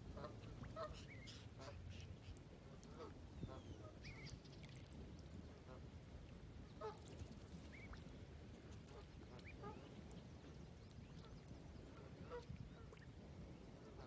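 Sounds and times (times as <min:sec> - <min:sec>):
low steady background rumble: 0:00.0 - 0:14.0
ducks calling faintly: 0:00.1 - 0:14.0.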